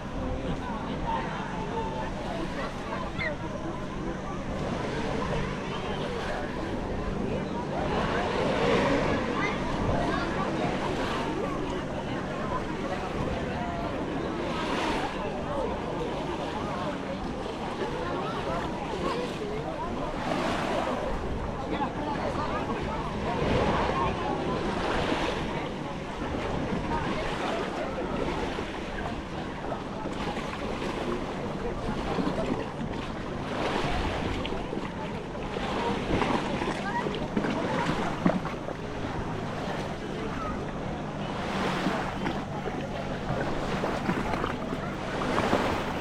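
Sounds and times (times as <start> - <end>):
sea waves washing on shore: 0.0 - 46.0.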